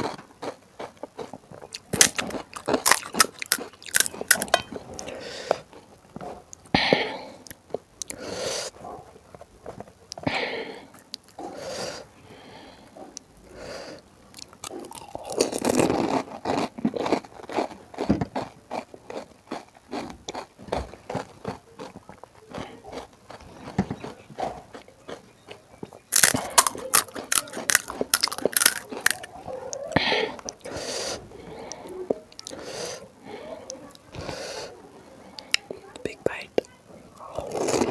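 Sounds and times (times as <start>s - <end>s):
crunching and chewing: 0.0s - 34.7s, 35.3s - 37.9s.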